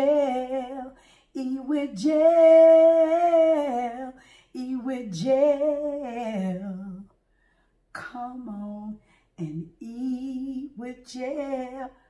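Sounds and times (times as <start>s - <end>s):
woman singing unaccompanied: 0.0s - 7.1s, 8.0s - 12.0s.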